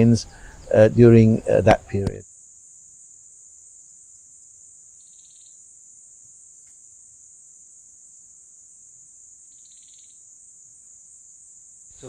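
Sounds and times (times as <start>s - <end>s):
insects humming: 0.0s - 12.0s
short pulsed insect trill: 2.2s - 12.0s.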